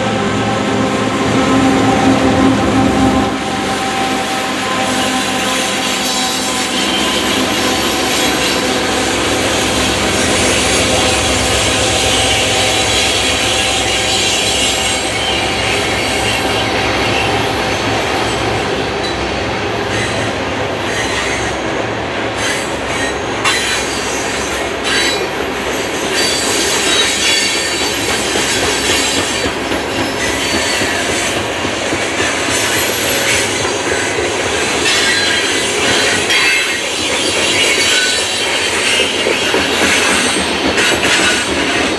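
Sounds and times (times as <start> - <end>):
freight train wheels squealing: 1.5 - 41.9.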